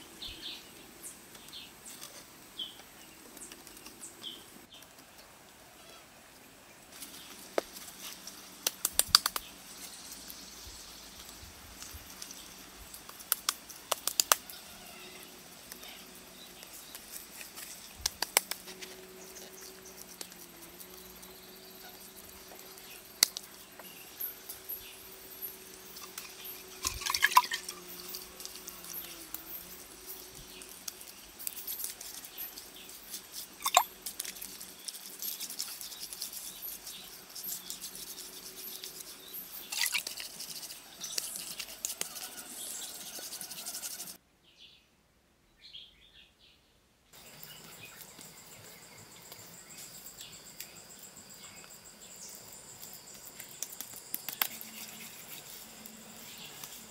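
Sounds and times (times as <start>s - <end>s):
insects chirping: 7.2s - 44.2s, 47.2s - 56.9s.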